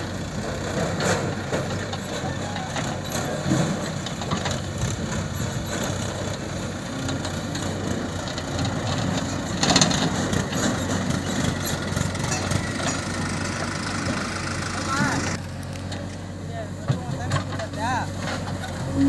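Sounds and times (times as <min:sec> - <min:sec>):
backhoe digging sand: 0:00.0 - 0:19.0
diesel engines running: 0:00.0 - 0:19.0.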